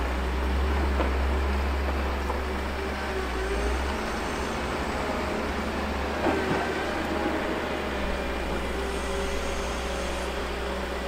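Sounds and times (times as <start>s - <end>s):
heavy equipment engine running: 0.0s - 11.0s.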